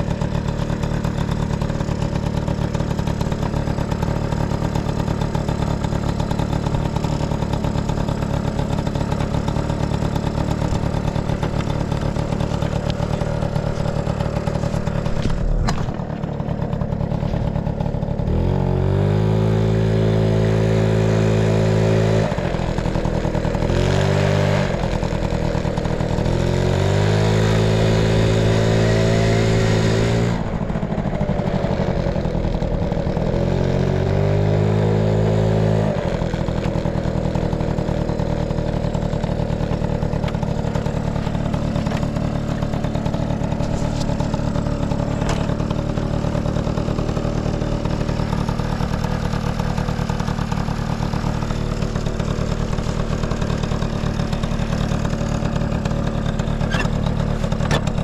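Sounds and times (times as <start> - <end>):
small engine revving and idling: 0.0 - 58.0.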